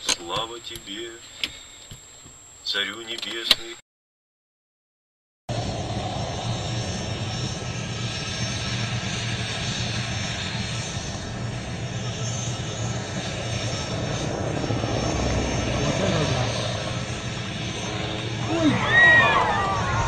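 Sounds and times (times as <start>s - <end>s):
aircraft engine drone: 0.0s - 3.3s, 5.5s - 20.0s.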